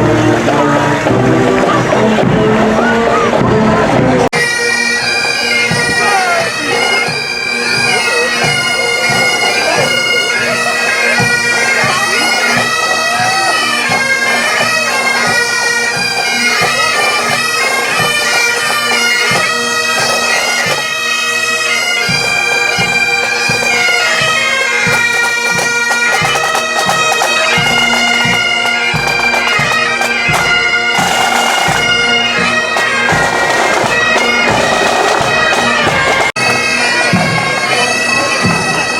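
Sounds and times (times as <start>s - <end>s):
drum beats: 0.0s - 20.9s, 22.0s - 38.9s
bagpipes playing a tune: 0.0s - 38.9s.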